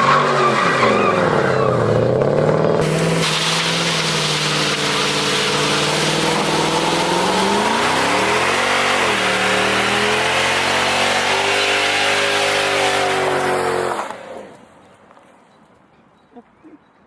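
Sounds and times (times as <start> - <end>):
car engine and exhaust revving: 0.0 - 14.9.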